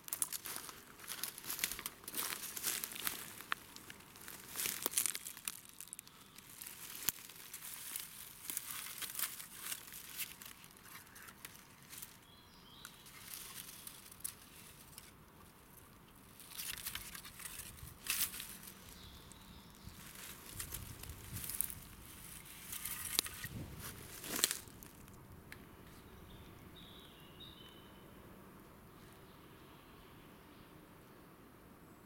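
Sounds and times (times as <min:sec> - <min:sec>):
leaves and twigs crackling underfoot: 0:00.0 - 0:27.8.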